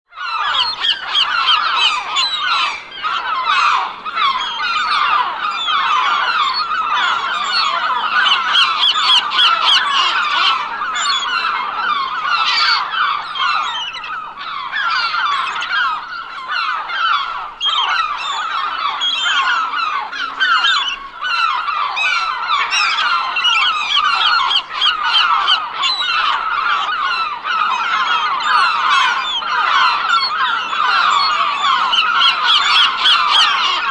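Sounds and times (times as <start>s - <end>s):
flock of gulls calling: 0.1s - 33.9s.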